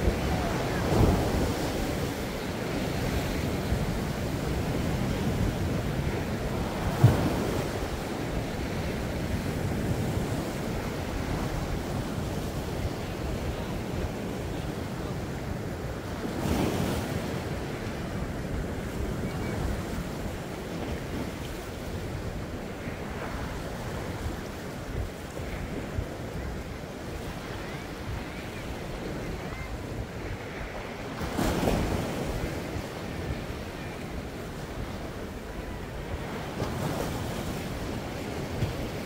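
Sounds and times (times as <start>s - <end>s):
waves breaking on rocks: 0.0s - 26.6s, 27.2s - 39.0s
wind buffeting microphone: 0.0s - 39.0s.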